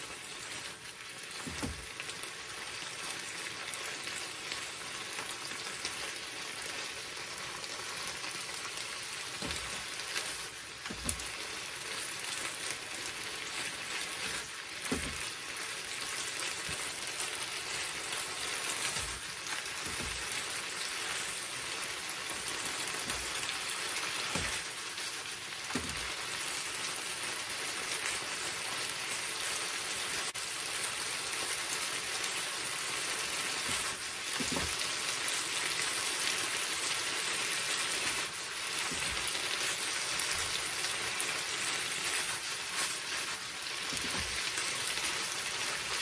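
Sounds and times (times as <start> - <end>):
food sizzling in a frying pan: 0.0 - 46.0.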